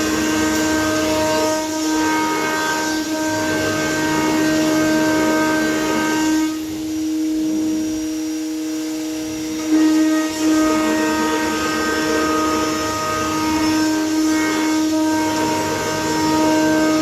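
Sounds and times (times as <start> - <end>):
router spindle high whine: 0.0 - 17.0.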